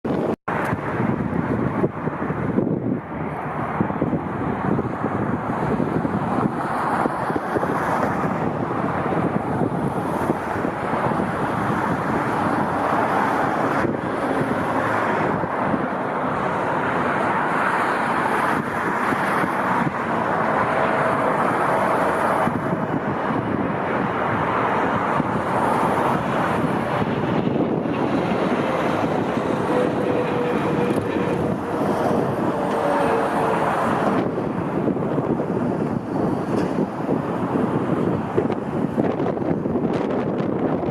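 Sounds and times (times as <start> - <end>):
wind buffeting microphone: 0.0 - 40.9
jet engines roaring: 0.1 - 40.9.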